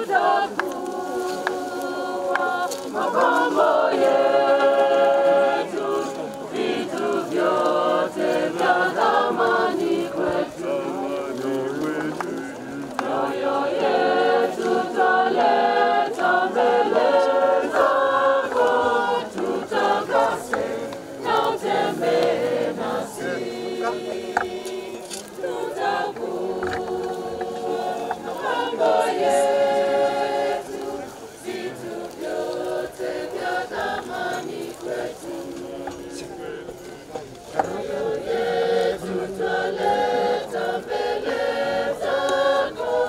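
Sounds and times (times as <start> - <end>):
choir singing a hymn: 0.0 - 43.0.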